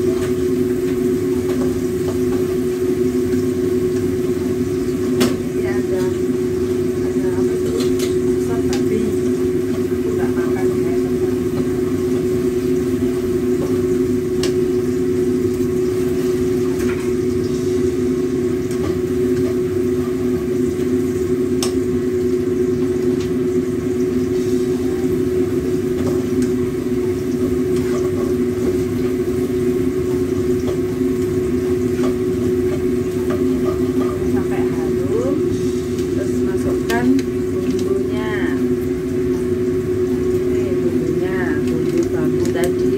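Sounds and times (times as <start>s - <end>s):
food stir-frying in a wok: 0.0s - 42.9s
mechanical hum: 0.0s - 42.9s.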